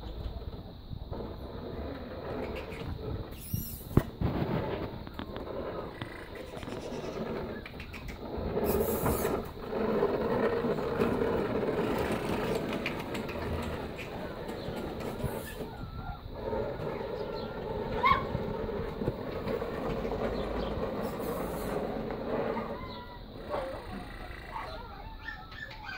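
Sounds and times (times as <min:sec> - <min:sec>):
lawnmower rumbling and rattling: 0:00.0 - 0:24.9.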